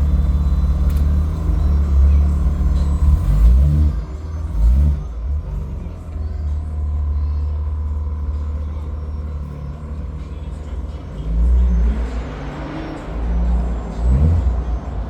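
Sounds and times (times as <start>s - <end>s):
car engine rumbling and revving: 0.0s - 15.0s.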